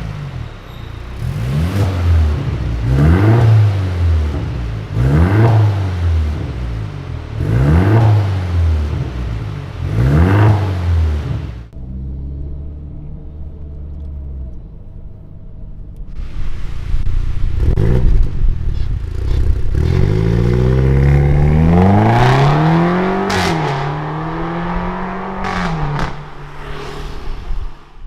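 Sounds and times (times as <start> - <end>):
car engine idling and revving: 0.0 - 28.0
exhaust cracks: 0.0 - 28.0.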